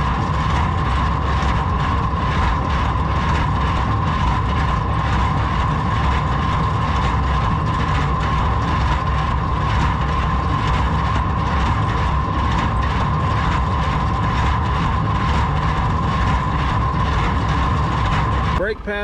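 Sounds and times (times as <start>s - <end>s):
high whine: 0.0s - 19.0s
tractor engine rumbling: 0.0s - 19.0s.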